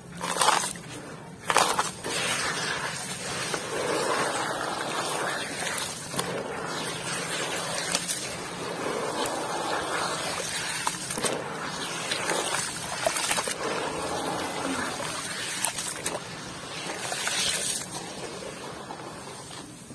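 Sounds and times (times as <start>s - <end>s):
muddy water sloshing and squelching: 0.0s - 19.7s
gritty crackles: 0.0s - 19.9s.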